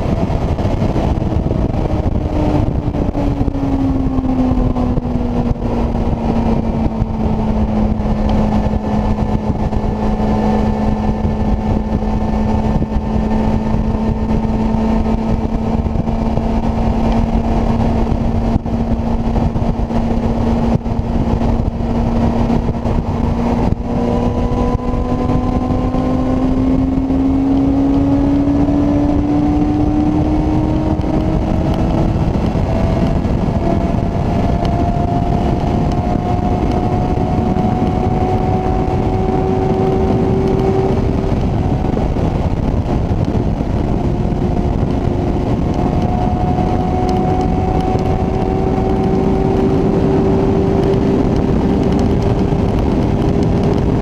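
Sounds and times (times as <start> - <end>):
motorcycle engine at high revs: 0.0 - 54.0
wind rush: 0.0 - 54.0.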